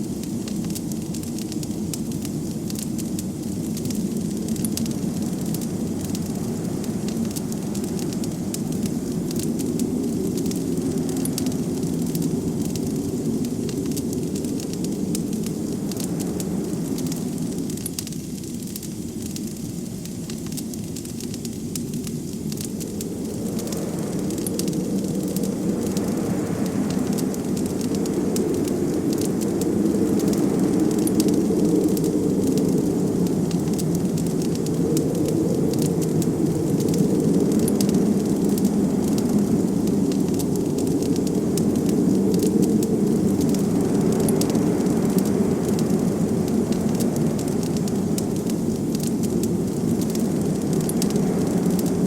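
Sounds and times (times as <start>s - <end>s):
blizzard wind rushing: 0.0s - 52.0s
wood fire crackling: 0.0s - 52.0s.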